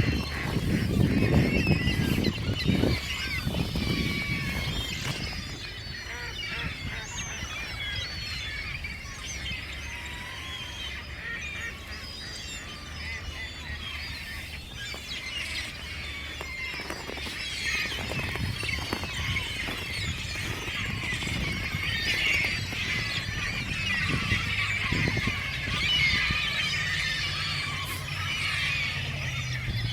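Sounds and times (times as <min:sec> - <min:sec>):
seagulls and ducks calling: 0:00.0 - 0:29.9.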